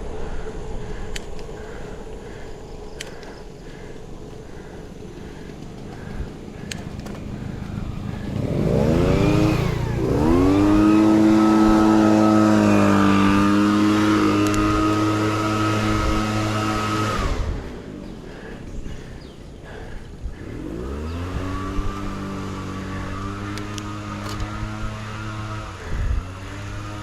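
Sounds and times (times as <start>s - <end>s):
engine accelerating through gears: 1.0s - 27.0s.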